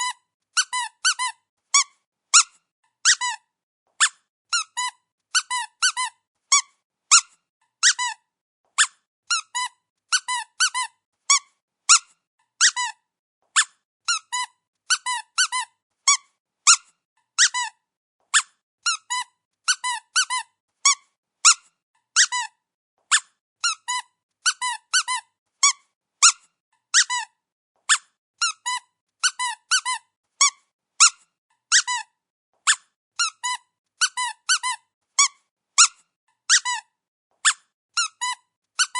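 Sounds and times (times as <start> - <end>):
squeaky dog toy squeaking: 0.0 - 38.9.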